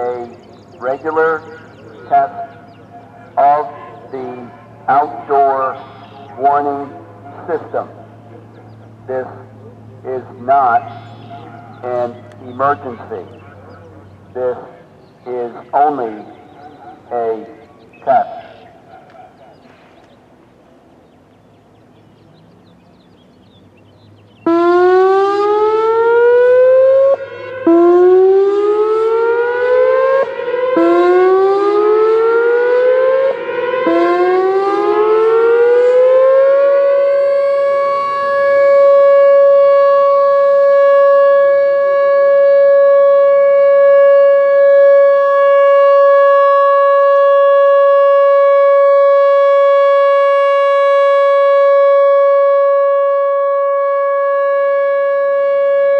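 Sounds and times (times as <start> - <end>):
electronic warning siren: 0.0 - 19.4, 24.2 - 55.9.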